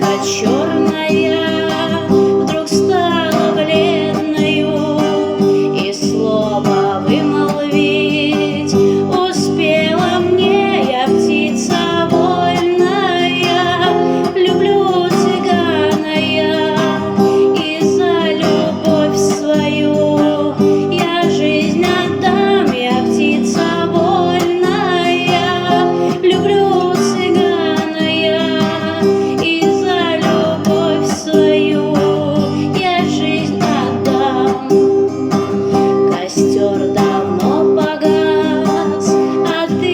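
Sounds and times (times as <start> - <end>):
strummed acoustic guitar: 0.0 - 39.9
woman singing: 0.0 - 39.9.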